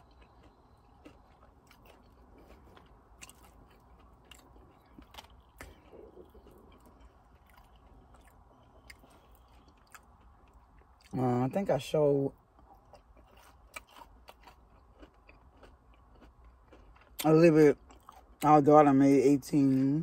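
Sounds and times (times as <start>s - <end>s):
person chewing: 0.0s - 11.4s, 12.4s - 19.8s.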